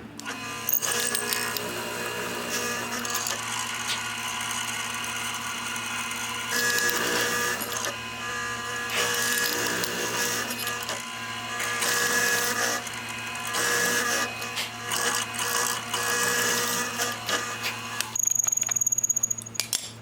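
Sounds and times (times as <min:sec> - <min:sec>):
power tool motor whine: 0:00.2 - 0:18.3.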